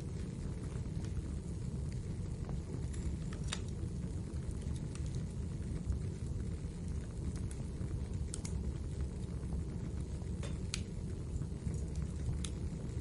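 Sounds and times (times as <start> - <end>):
fire flames roaring: 0.0 - 13.0
logs crackling and popping: 0.0 - 13.0.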